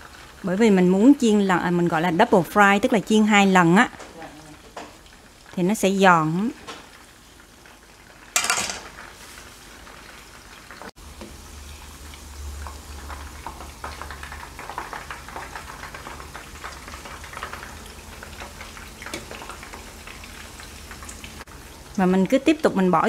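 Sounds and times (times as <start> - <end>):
hot oil sizzling and popping: 0.0 - 23.0.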